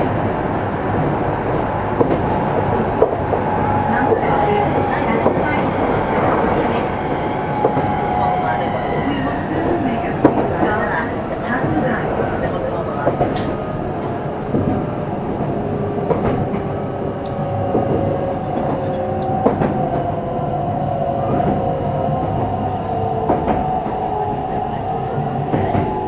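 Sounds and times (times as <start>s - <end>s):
rail joint clicks: 0.9s - 20.6s, 21.2s - 26.0s.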